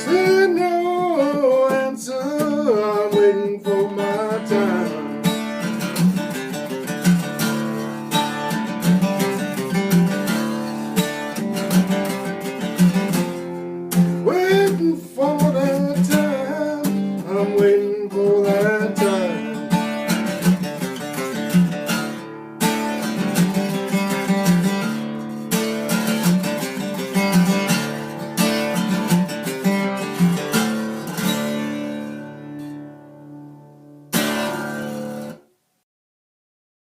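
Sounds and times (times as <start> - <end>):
acoustic guitar blues: 0.0 - 35.5.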